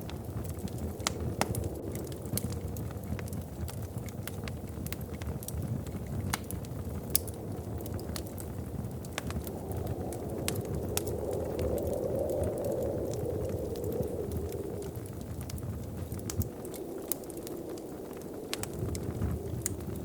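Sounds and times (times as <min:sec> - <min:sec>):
soft wind: 0:00.0 - 0:20.0
wood fire crackling and popping: 0:00.0 - 0:20.0.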